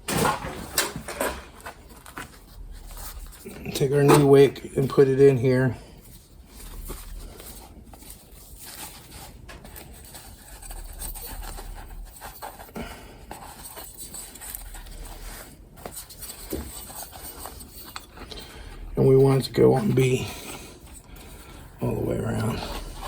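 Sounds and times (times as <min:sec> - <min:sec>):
rustling and scraping of wick: 0:00.8 - 0:23.0.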